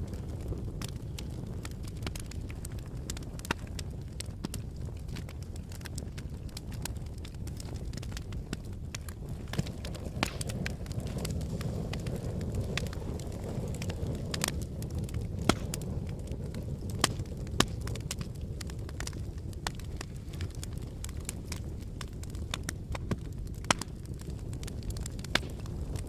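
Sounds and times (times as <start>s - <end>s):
burning wood crackling and popping: 0.0s - 26.0s
fire flames rumbling: 0.0s - 26.0s.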